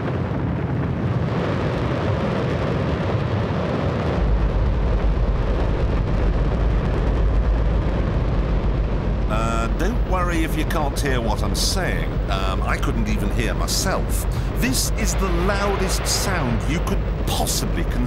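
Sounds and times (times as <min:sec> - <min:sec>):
rocket engine roaring: 0:00.0 - 0:18.0.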